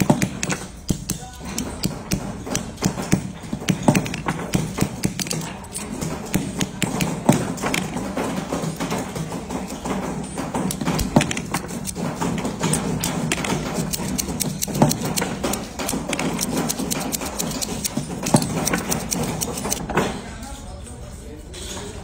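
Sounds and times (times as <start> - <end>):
sharp knocks: 0.0 - 20.0.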